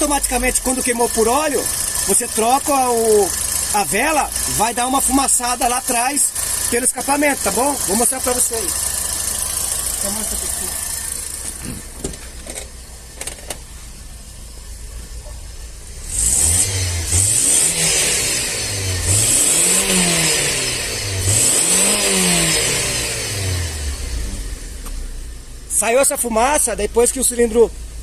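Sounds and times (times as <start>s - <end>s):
car engine revving: 0.0s - 25.8s.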